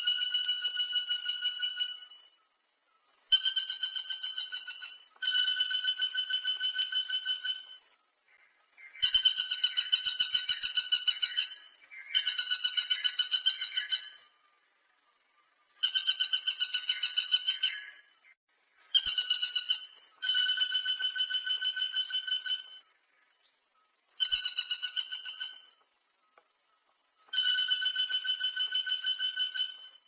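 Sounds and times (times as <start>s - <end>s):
woodpecker rattling calls: 0.0s - 2.4s, 3.2s - 14.4s, 15.8s - 23.4s, 24.1s - 26.4s, 27.2s - 30.0s.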